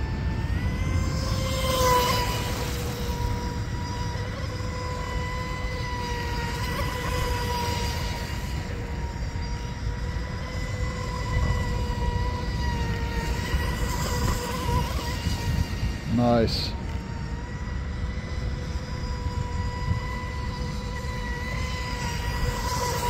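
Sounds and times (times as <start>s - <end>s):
electric motor high-pitched whine: 0.0s - 23.0s.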